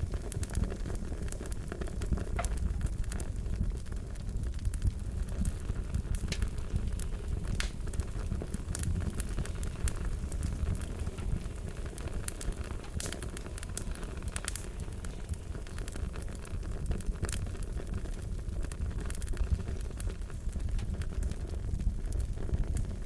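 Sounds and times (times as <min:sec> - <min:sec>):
fire crackling: 0:00.0 - 0:23.0.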